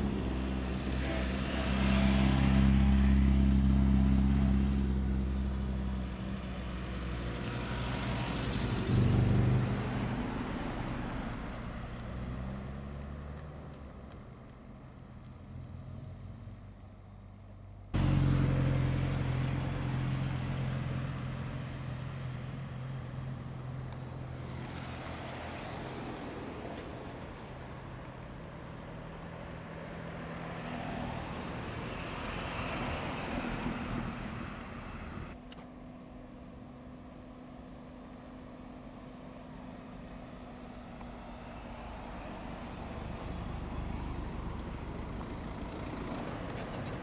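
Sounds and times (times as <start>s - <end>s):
cars driving slowly past: 0.0s - 47.0s.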